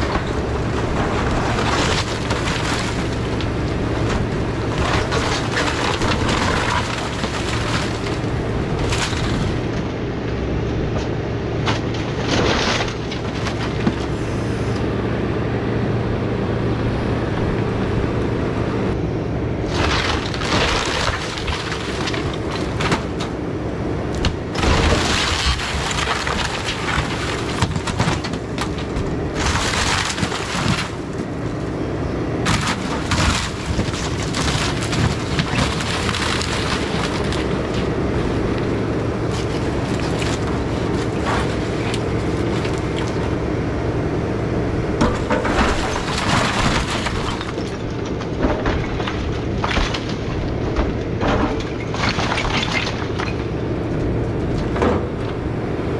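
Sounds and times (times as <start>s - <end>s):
wood crashing and splintering: 0.0s - 10.0s, 11.6s - 14.2s, 19.6s - 23.4s, 24.1s - 43.4s, 45.0s - 55.4s
excavator diesel engine running: 0.0s - 55.9s.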